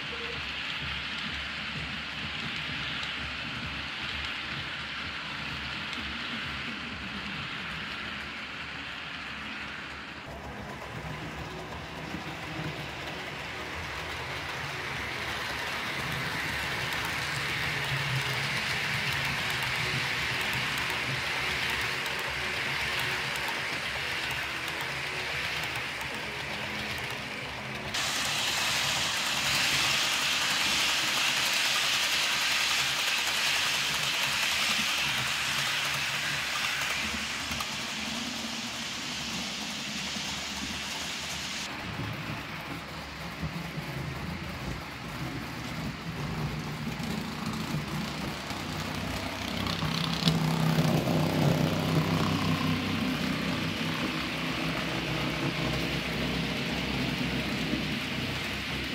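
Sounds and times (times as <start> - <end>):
model train wheels rushing on rails: 0.0 - 58.9.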